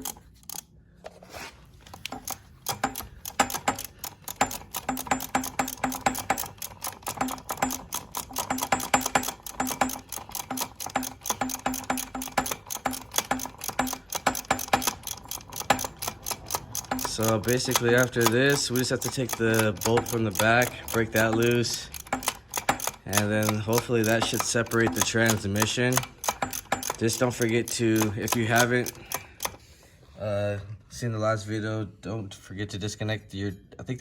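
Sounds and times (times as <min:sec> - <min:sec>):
hand ratchet clicking: 0:00.0 - 0:00.7, 0:01.8 - 0:29.7.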